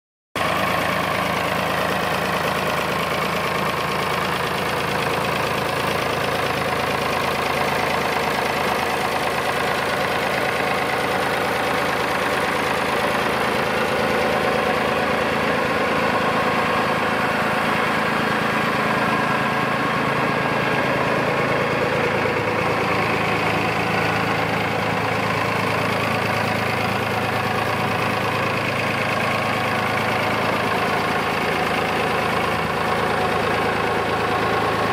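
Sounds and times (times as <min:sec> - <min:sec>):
diesel tractor engine idling: 0:00.4 - 0:34.9.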